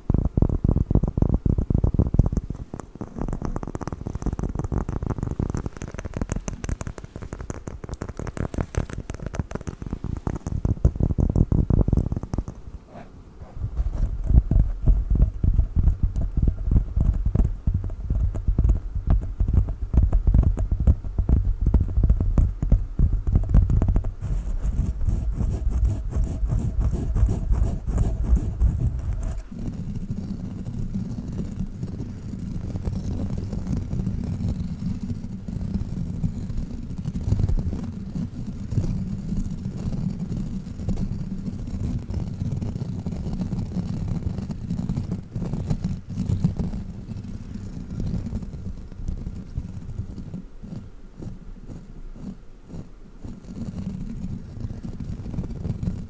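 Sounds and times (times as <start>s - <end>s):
scratchy rubbing: 0.4s - 56.0s.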